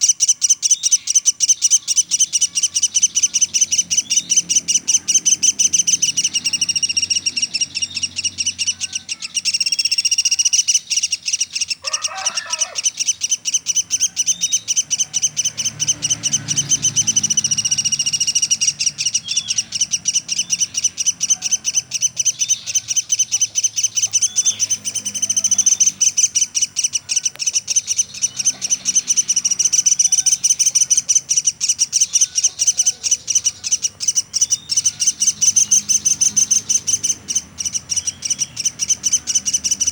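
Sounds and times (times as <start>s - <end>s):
woodpecker calling shrill notes: 0.0s - 39.9s.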